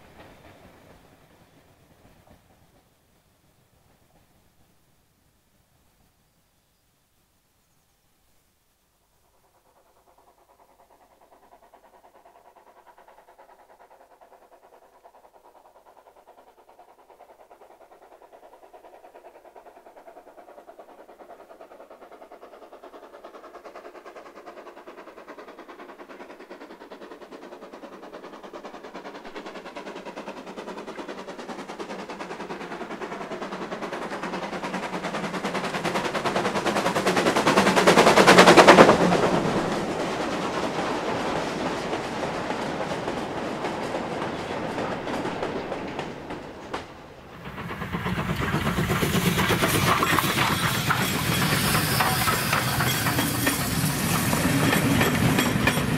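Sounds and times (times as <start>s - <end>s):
steam locomotive exhaust beats: 0.0s - 5.1s, 9.1s - 55.9s.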